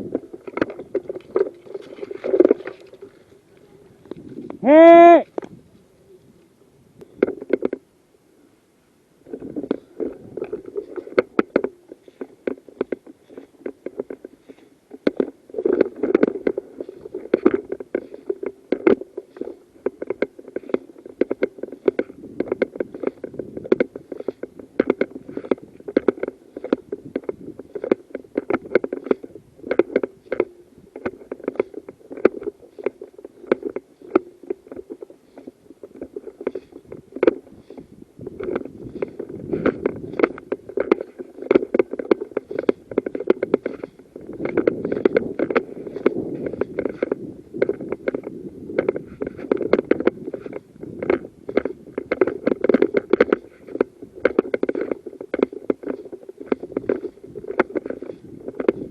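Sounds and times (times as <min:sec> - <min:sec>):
small clicks and scrapes: 0:00.0 - 0:04.6, 0:05.2 - 0:07.9, 0:09.2 - 0:58.9
rustling and crackling footsteps: 0:00.0 - 0:07.9, 0:09.1 - 0:58.9.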